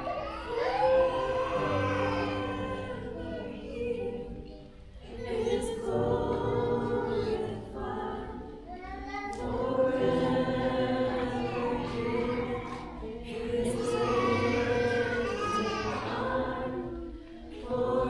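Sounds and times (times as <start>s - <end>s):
congregation singing: 0.0s - 18.0s.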